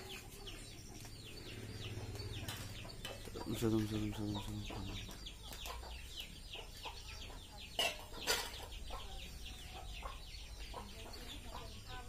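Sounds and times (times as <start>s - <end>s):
birds chirping and clucking: 0.0s - 12.0s.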